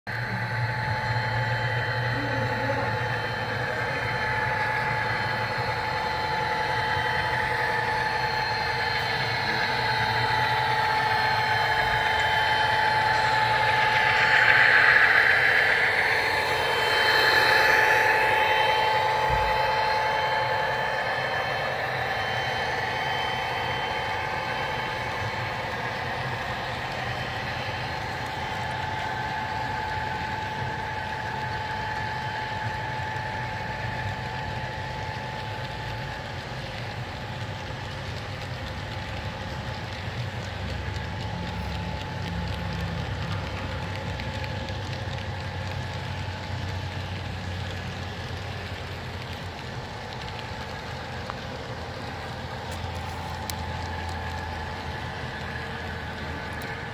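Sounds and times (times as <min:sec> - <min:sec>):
diesel engine sound: 0:00.1 - 0:56.9
model train rolling on track: 0:00.1 - 0:56.9.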